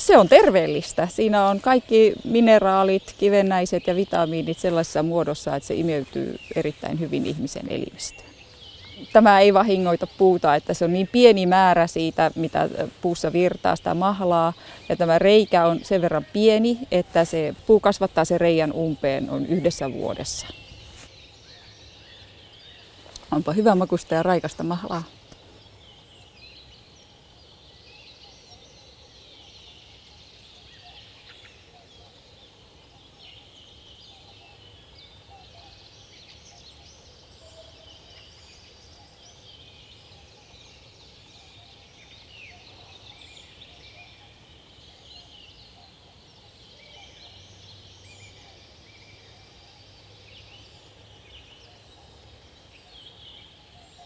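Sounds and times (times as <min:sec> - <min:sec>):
small birds chirping and singing: 0:00.0 - 0:54.0.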